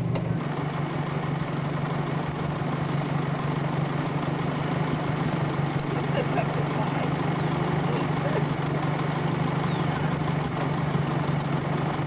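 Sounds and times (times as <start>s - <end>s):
rail car engine humming: 0.0s - 12.0s.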